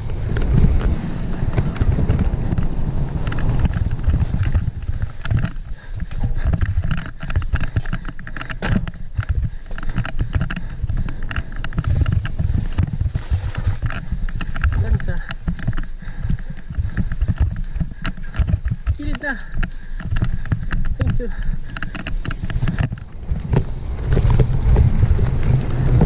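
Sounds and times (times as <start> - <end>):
bike rattling and knocking: 0.0 - 26.0
tyres running over rough dirt: 0.0 - 26.0
wind buffeting microphone: 0.0 - 26.0.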